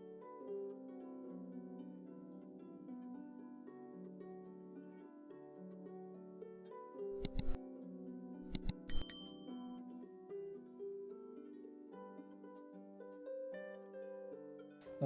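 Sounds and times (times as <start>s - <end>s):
plucked harp-like music: 0.0s - 15.0s.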